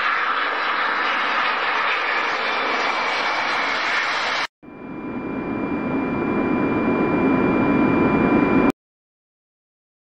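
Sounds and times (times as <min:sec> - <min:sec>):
jet engine high whine: 0:00.0 - 0:08.8.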